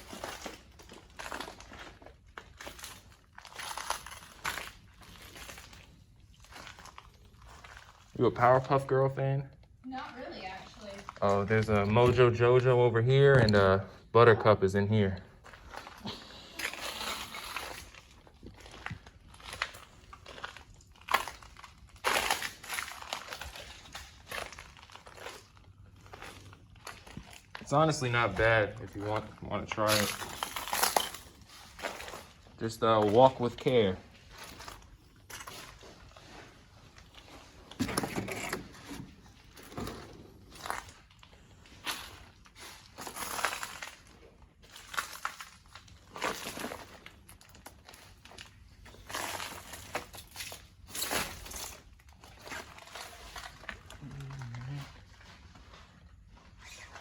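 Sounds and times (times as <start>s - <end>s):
footsteps crunching on debris: 0.0s - 8.5s, 15.2s - 57.0s.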